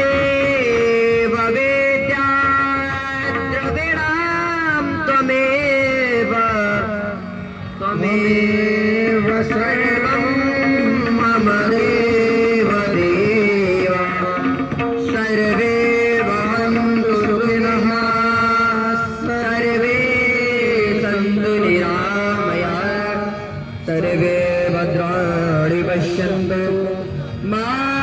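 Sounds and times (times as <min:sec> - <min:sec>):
ornamented sung melody: 0:00.0 - 0:28.0.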